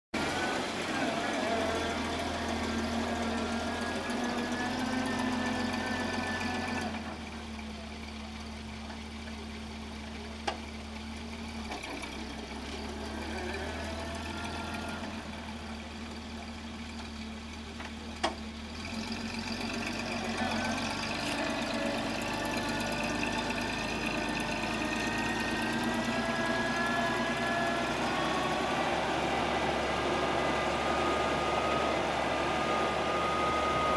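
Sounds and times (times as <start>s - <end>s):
truck engine running at low speed: 0.1s - 33.9s.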